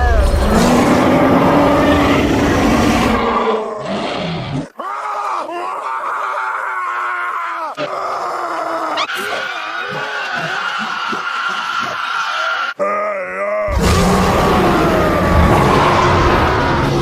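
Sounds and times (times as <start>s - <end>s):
creature roaring: 0.0s - 5.9s, 7.8s - 17.0s
creature groaning: 0.0s - 6.4s, 7.8s - 17.0s.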